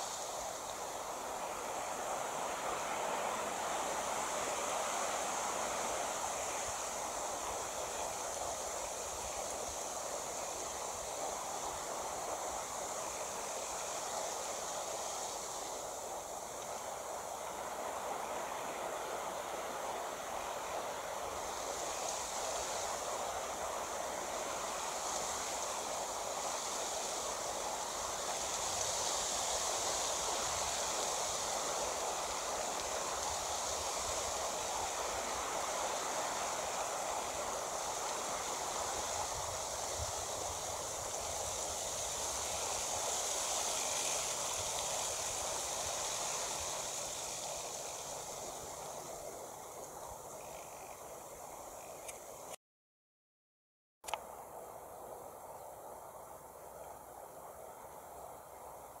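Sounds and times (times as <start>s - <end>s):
high hiss: 0.0s - 52.6s, 54.0s - 59.0s
rushing outdoor noise: 0.0s - 52.6s.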